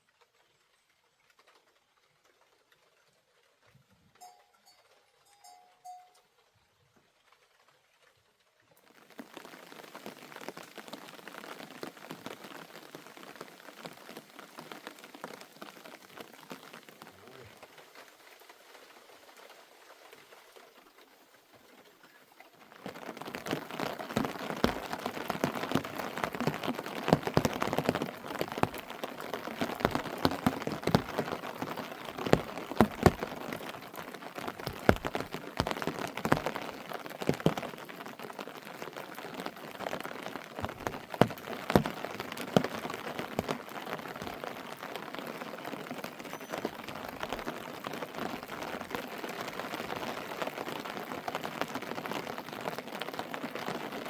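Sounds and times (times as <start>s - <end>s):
rain falling: 0.0s - 54.0s
raindrops striking a surface: 0.0s - 54.0s.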